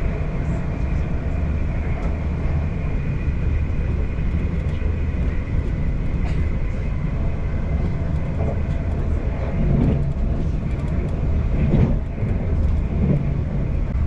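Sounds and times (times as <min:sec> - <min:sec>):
train rumbling in motion: 0:00.0 - 0:14.0.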